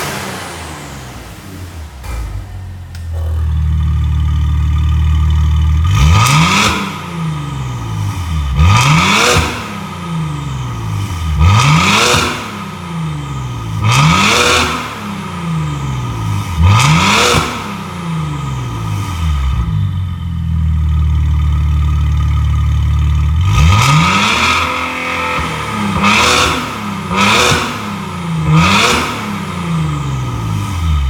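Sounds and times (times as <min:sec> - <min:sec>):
car engine revving: 0:00.0 - 0:19.9, 0:23.3 - 0:31.0.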